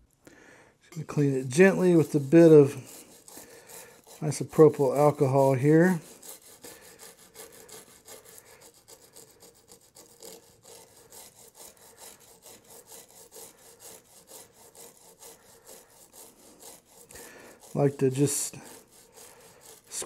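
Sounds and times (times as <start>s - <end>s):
brush scrubbing circuit board: 0.9s - 20.0s.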